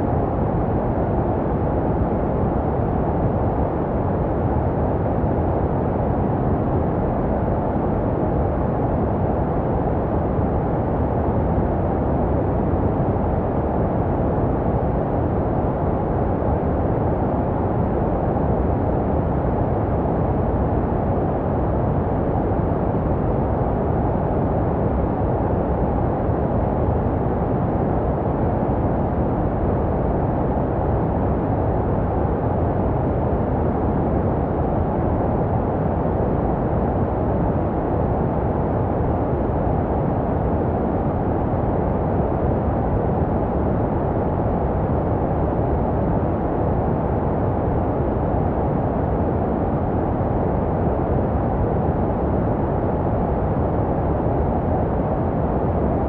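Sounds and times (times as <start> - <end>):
low rushing white noise: 0.0 - 56.0.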